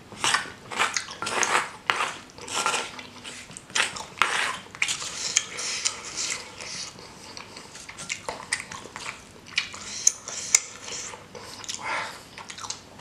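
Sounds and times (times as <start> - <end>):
slurping and chewing: 0.2 - 13.0.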